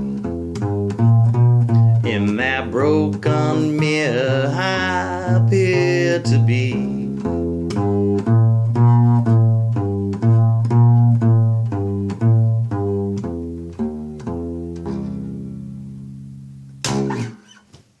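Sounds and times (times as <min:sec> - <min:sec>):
plucked bass notes: 0:00.0 - 0:17.6.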